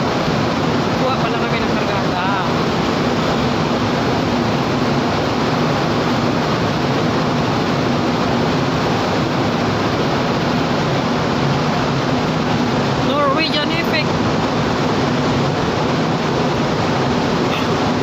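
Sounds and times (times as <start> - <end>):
ship engine hum: 0.0 - 18.0
wind and water rushing: 0.0 - 18.0.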